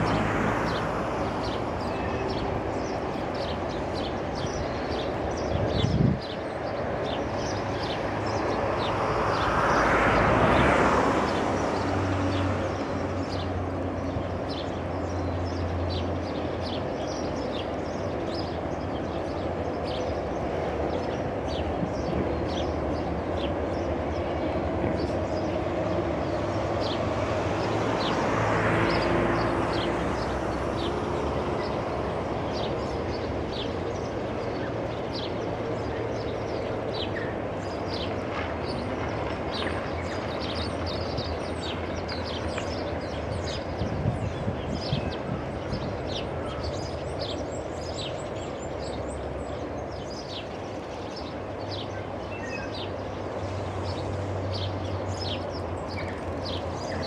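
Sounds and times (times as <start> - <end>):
trolley rumbling along cable: 0.0 - 57.0.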